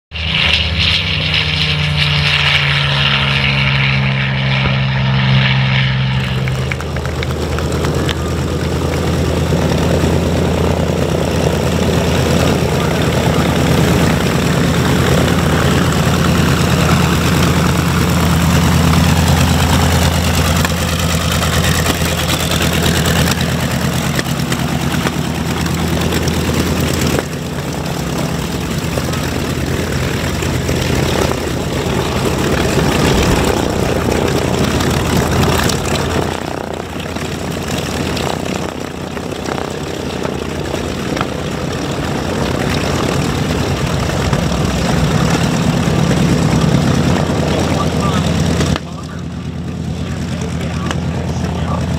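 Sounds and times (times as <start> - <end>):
propeller aircraft engines droning: 0.1 - 51.9.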